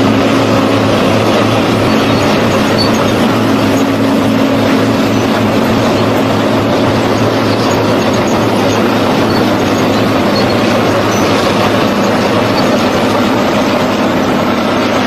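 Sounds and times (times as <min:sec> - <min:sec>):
plowing machinery clatter: 0:00.0 - 0:15.0
tractor engine running: 0:00.0 - 0:15.0.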